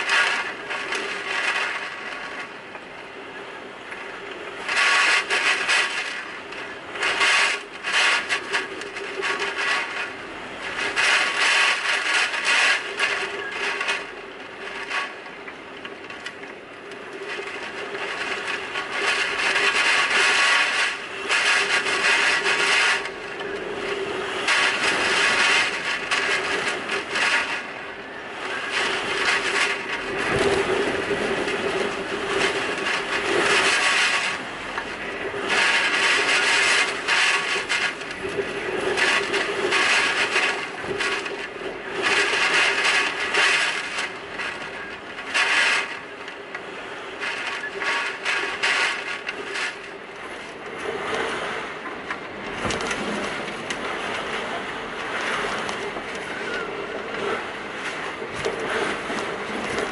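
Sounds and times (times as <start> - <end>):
driving rain: 0.0 - 59.9
gusting wind: 0.0 - 59.9.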